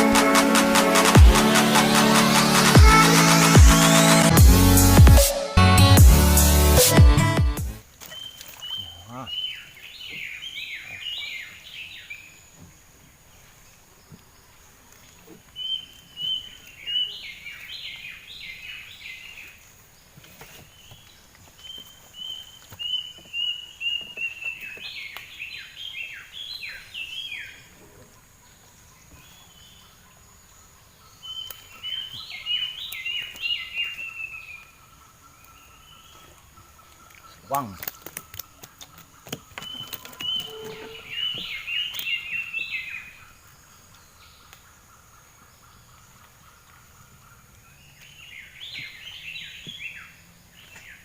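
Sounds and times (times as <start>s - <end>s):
songbird singing: 7.7s - 51.0s.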